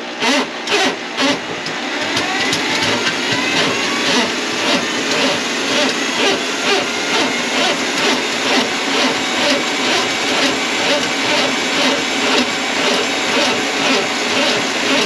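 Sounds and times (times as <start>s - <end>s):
small electric motor running: 0.2s - 15.0s.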